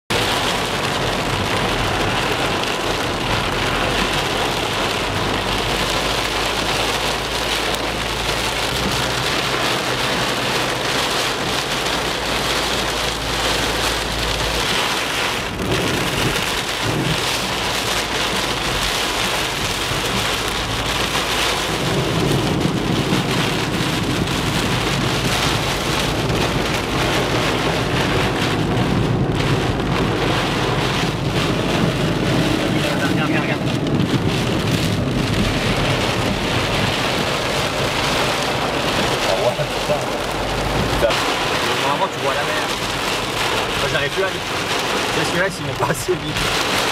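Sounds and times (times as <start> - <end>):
deep rushing noise: 0.1 - 44.4
heavy rain on car roof: 0.1 - 46.9.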